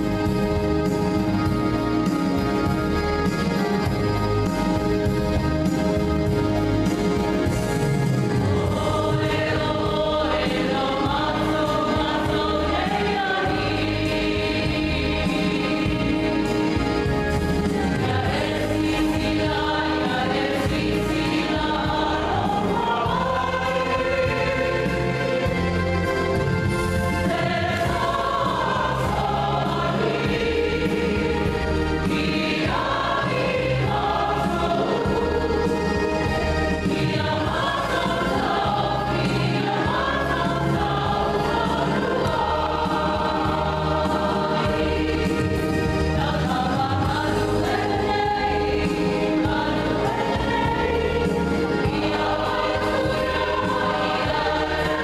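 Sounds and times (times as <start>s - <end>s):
choir singing a hymn: 0.0s - 55.0s
electronic organ playing hymn chords: 0.0s - 55.0s.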